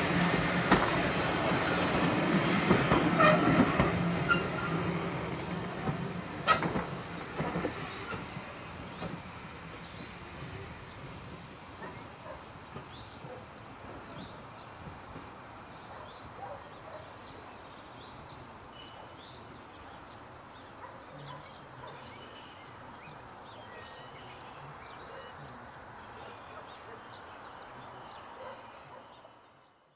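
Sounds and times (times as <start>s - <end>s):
outdoor background noise: 0.0s - 29.9s.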